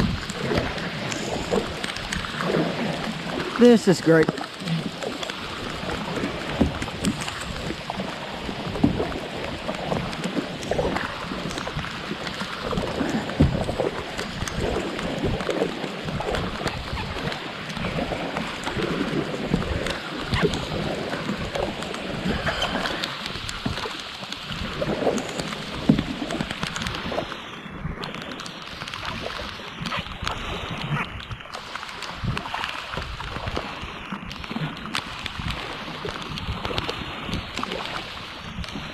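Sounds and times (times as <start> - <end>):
heavy rain on water: 0.0 - 38.9
raindrops tapping on kayak: 0.0 - 38.9.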